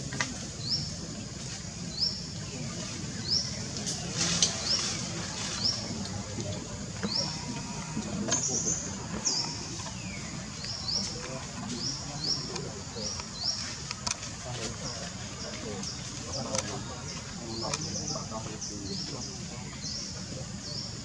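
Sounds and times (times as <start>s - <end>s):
bird chirping: 0.1s - 21.0s.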